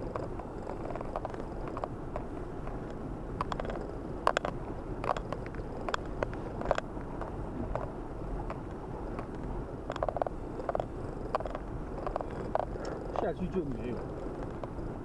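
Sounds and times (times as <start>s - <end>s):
sharp clicks and crackles: 0.0s - 13.3s, 13.9s - 14.9s
car engine and tyres rumbling: 0.0s - 15.0s.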